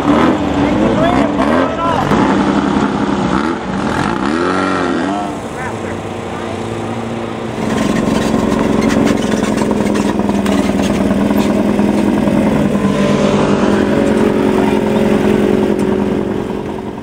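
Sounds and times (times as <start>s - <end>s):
buggy engine running loud: 0.0s - 17.0s.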